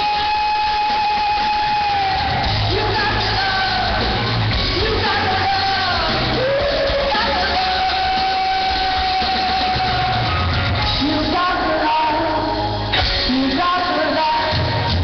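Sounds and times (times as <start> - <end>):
live band playing: 0.0 - 15.0
woman singing lead: 0.0 - 15.0
pulsing bass: 1.6 - 15.0.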